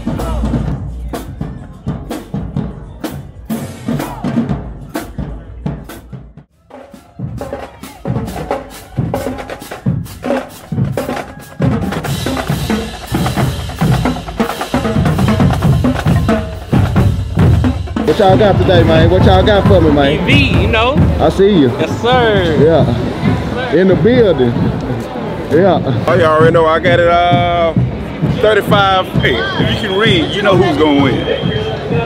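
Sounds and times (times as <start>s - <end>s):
drumline playing: 0.0s - 32.0s.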